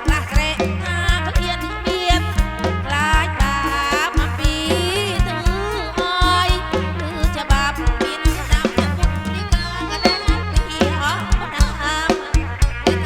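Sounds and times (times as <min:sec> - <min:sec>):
band music through loudspeakers: 0:00.0 - 0:13.0.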